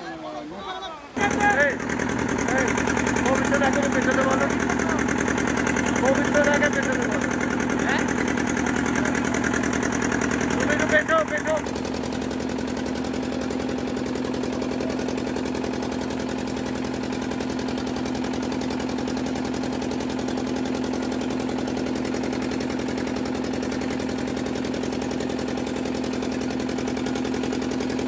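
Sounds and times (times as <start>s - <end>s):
boat engine chugging: 1.1s - 28.0s.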